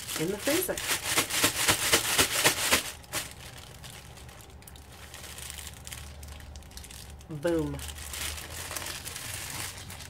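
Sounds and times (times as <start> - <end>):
foil and plastic bag crinkling: 0.0 - 10.0.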